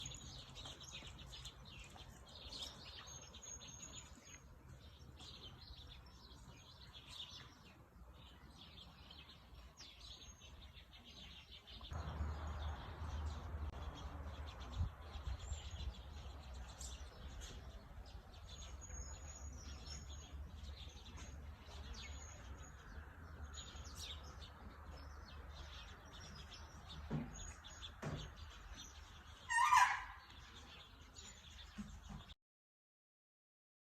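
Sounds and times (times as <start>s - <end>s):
small birds chirping: 0.0s - 32.4s.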